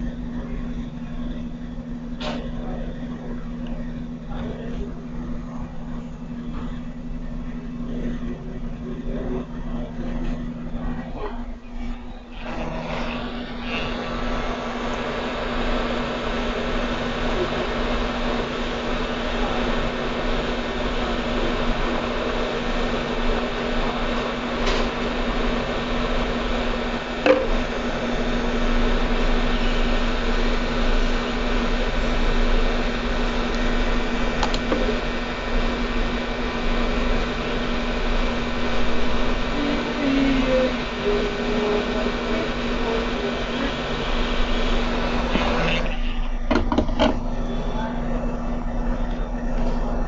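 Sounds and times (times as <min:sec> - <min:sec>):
hot air station blowing: 0:00.0 - 0:50.0.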